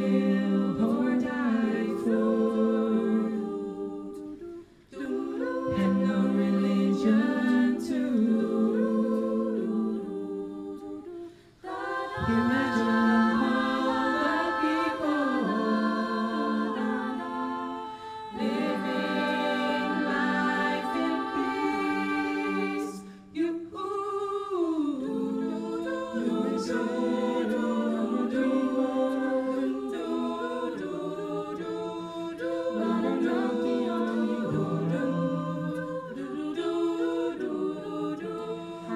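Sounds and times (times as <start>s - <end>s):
vocal group singing a cappella: 0.0s - 38.9s.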